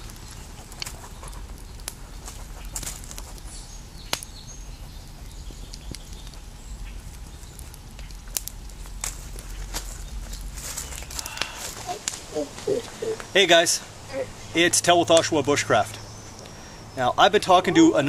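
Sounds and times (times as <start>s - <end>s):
campfire crackling and popping: 0.0s - 18.0s
low steady rumble: 0.0s - 18.0s.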